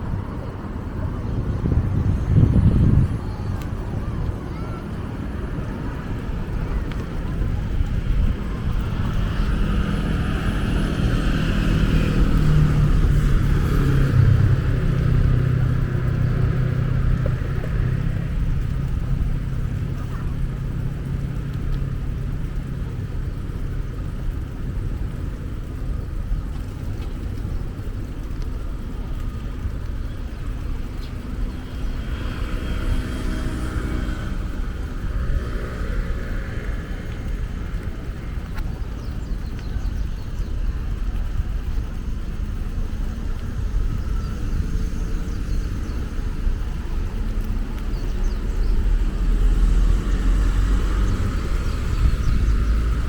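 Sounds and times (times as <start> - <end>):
bicycle rolling noise: 0.0 - 53.0
wind rumble on microphone: 0.0 - 53.0.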